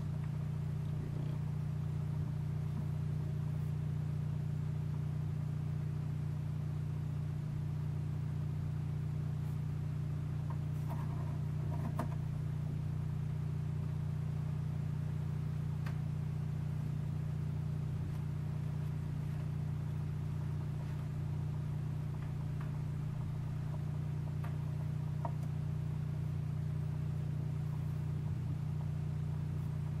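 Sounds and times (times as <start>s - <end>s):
turntable motor hum: 0.0s - 30.0s.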